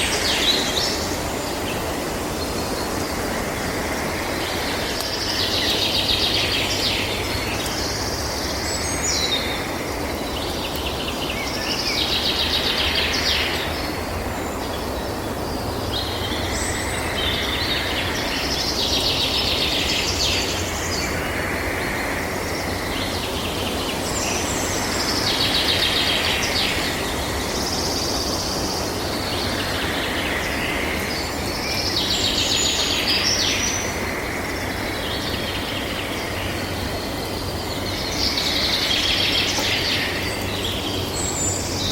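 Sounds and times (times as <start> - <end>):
low background noise: 0.0 - 41.9.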